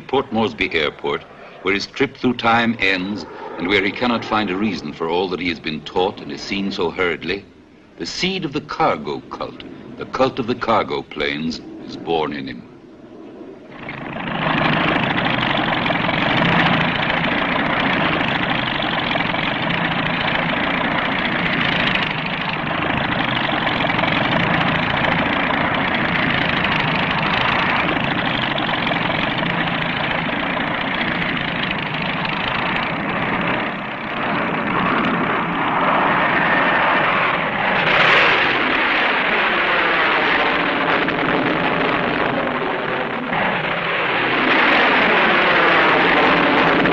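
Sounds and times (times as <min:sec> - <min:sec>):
aircraft engines running: 0:00.0 - 0:46.9
aircraft passing: 0:00.0 - 0:46.9.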